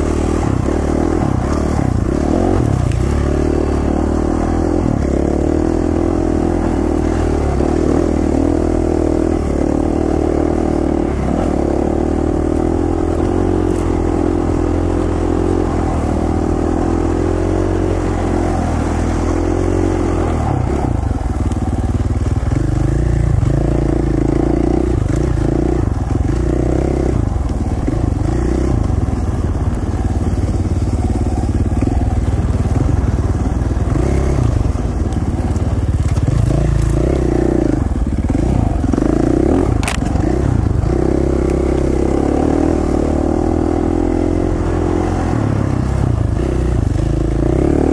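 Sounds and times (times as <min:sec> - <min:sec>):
dirt bike engine running: 0:00.0 - 0:47.9.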